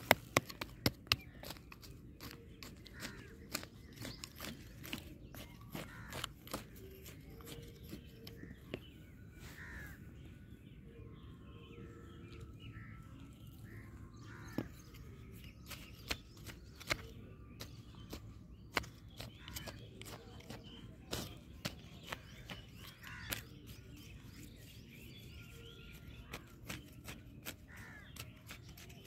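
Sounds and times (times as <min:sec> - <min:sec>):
hand blade scraping dry soil: 0:00.0 - 0:08.8, 0:13.4 - 0:29.0
birds calling: 0:00.0 - 0:29.0.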